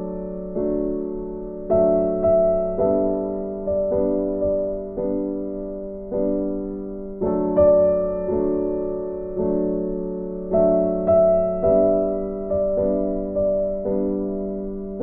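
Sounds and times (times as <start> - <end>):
slow electric piano chords: 0.0 - 15.0.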